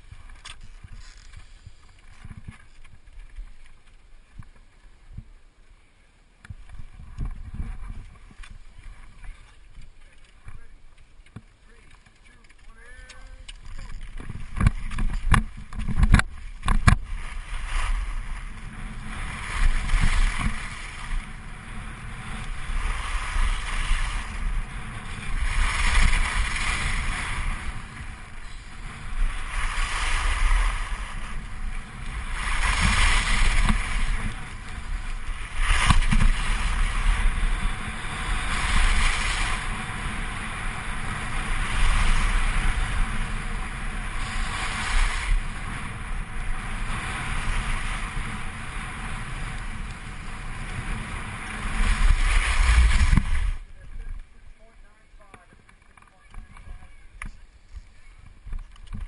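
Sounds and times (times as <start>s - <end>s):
skis scraping snow: 0.0s - 5.1s, 6.5s - 59.0s
wind rumble on microphone: 0.0s - 5.7s, 6.4s - 59.0s.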